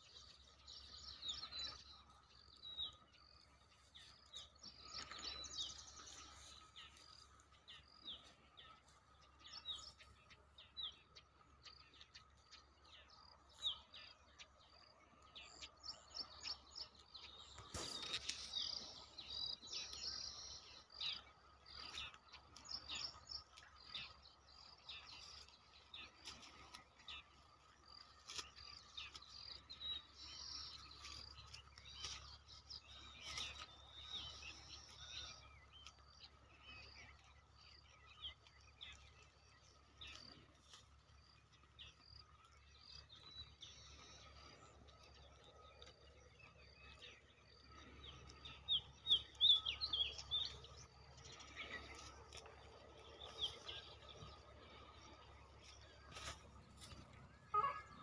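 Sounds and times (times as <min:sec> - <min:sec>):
birds chirping: 0:00.0 - 0:58.0
faint outdoor background noise: 0:00.0 - 0:58.0.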